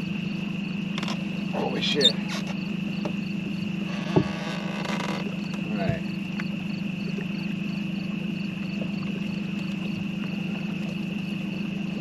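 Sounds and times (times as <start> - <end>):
insects chirping: 0.0 - 12.0
steady low hum: 0.0 - 12.0.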